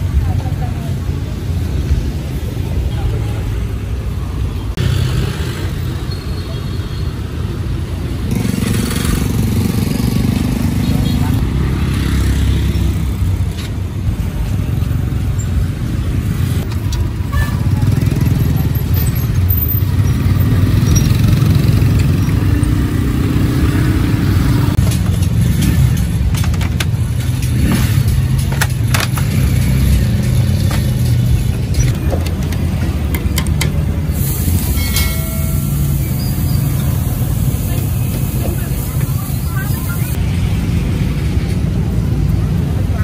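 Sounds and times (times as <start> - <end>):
motorbikes and cars passing: 0.0 - 43.0.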